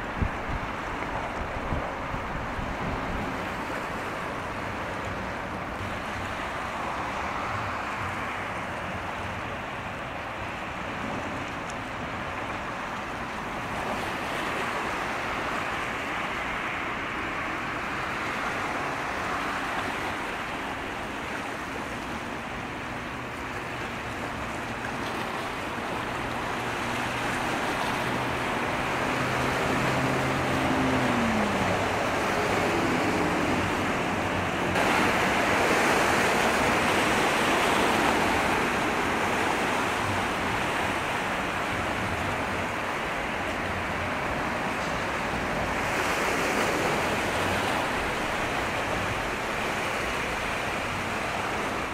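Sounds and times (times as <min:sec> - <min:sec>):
low engine hum: 0:00.0 - 0:51.9
sea waves: 0:00.0 - 0:51.9
wind: 0:00.0 - 0:51.9.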